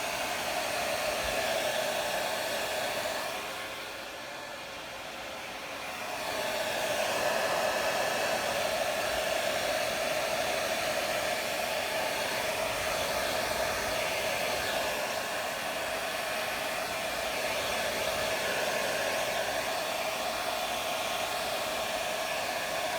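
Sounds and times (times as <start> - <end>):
hair dryer running: 0.0 - 22.9.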